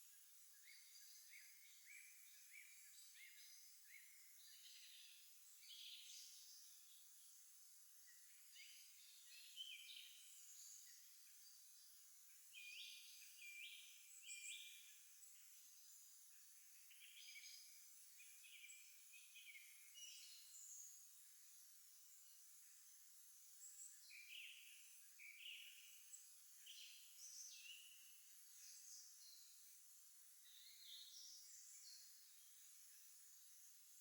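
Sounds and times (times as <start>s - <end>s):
songbirds singing: 0.0s - 21.7s, 22.6s - 34.0s
background hiss: 0.0s - 34.0s.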